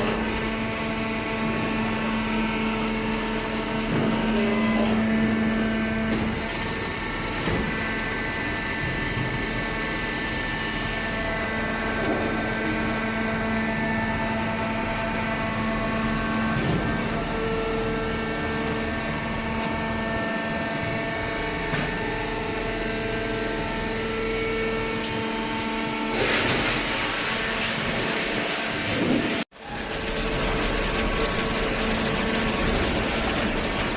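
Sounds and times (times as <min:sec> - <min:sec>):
machine droning hum: 0:00.0 - 0:33.9.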